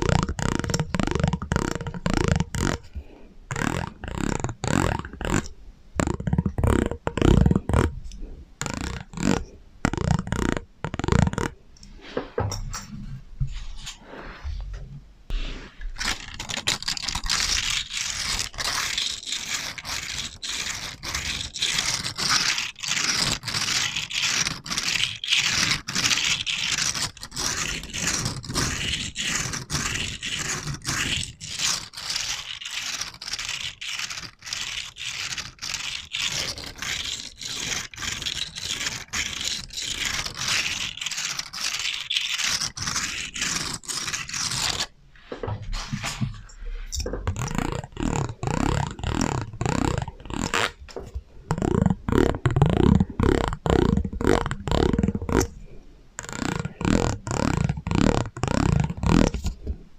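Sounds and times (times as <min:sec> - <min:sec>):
rapid scraping strokes: 0:00.0 - 0:59.7.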